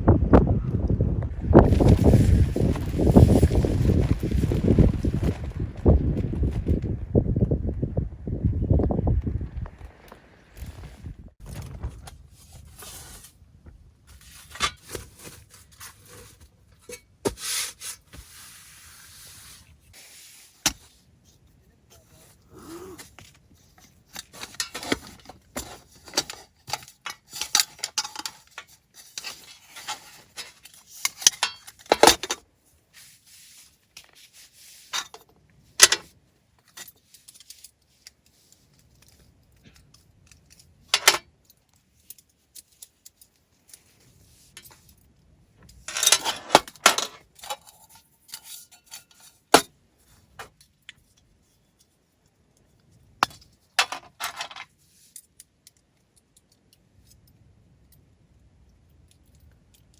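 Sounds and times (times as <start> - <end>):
rustling: 1.6 - 6.9, 9.9 - 55.7.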